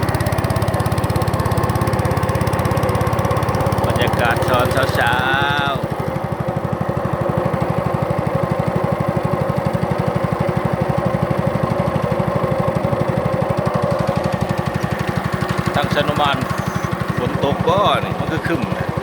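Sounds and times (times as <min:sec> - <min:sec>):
small boat engine thumping: 0:00.0 - 0:19.0.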